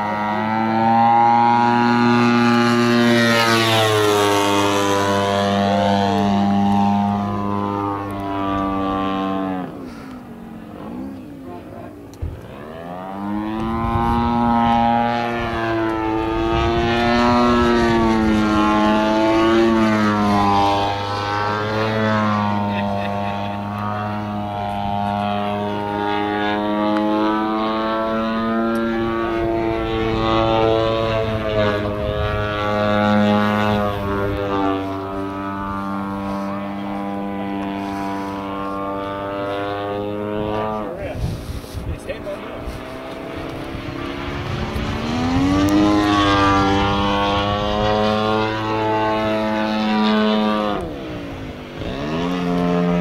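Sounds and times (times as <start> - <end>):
model plane engine buzzing: 0.0 - 53.0.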